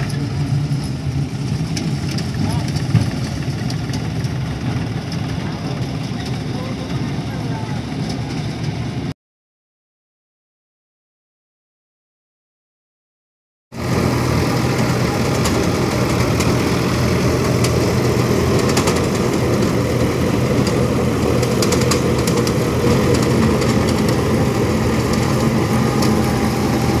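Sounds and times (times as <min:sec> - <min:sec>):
tractor diesel engine running: 0:00.0 - 0:09.1, 0:13.8 - 0:27.0.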